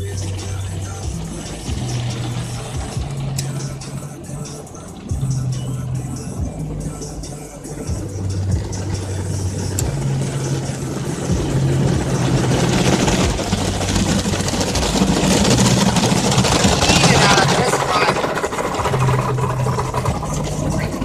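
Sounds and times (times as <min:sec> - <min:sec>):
car wash machine hum: 0:00.0 - 0:21.0.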